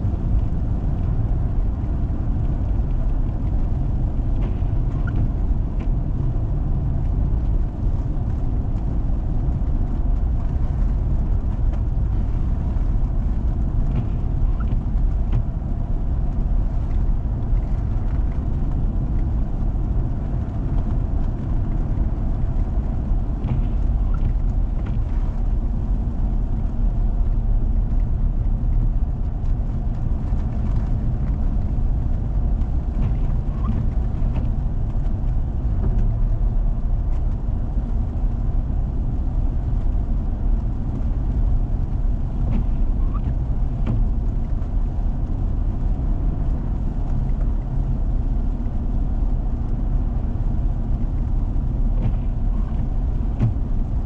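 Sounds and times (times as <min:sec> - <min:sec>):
vehicle driving on snowy road: 0:00.0 - 0:54.0.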